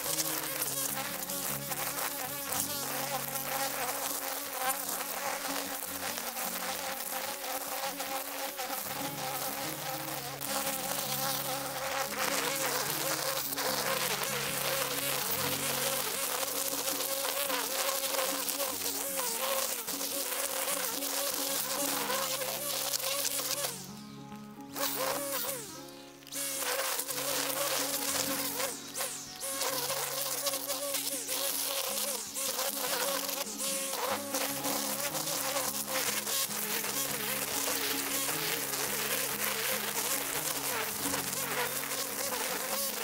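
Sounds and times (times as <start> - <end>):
string trimmer motor whining: 0.0 - 43.0.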